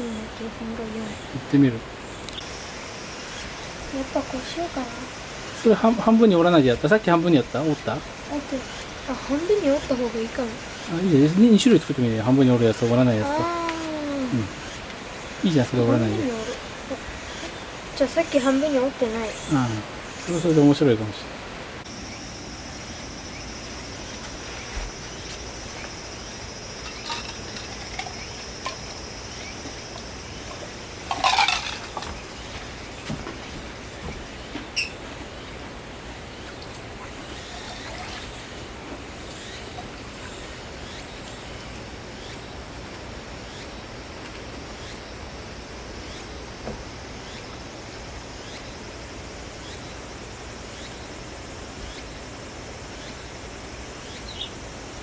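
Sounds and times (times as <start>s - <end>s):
insect high buzz: 0.0s - 55.0s
insect high chirp: 0.0s - 55.0s.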